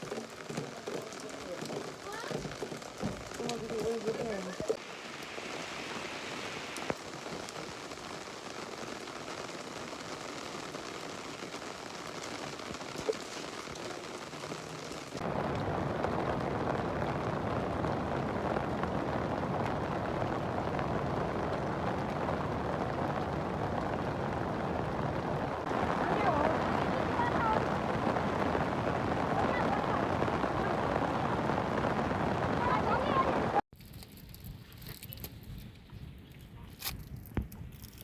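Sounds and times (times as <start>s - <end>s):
heavy rain falling: 0.0s - 33.6s.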